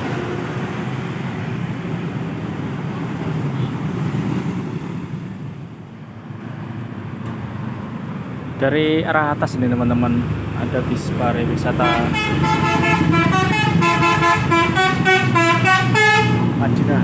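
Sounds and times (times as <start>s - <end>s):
bus driving past: 0.0s - 8.6s, 9.6s - 17.0s.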